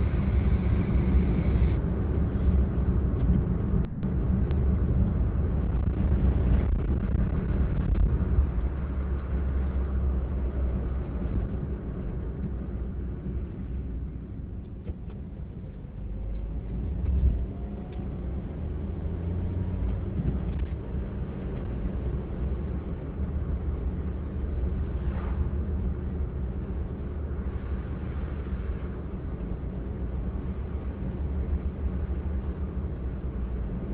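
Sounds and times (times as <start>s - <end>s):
car cabin road and engine rumble: 0.0s - 33.9s.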